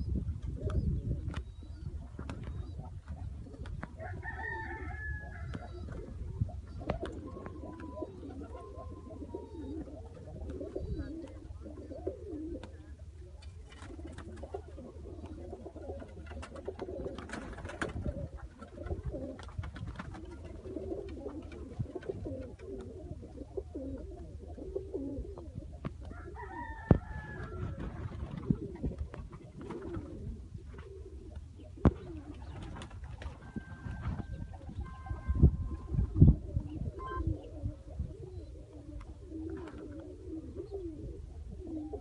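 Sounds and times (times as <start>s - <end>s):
pigeons cooing: 0.0s - 42.0s.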